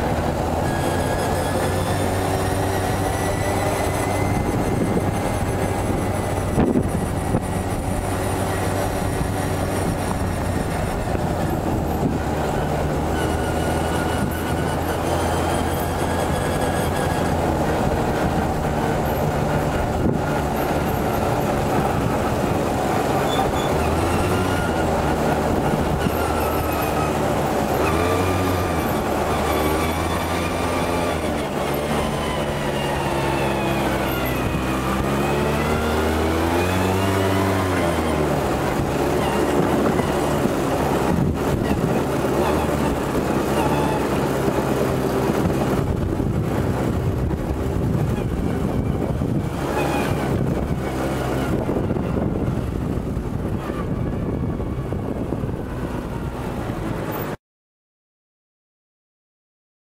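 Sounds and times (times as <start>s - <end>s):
quad bike engine running: 0.0s - 57.4s.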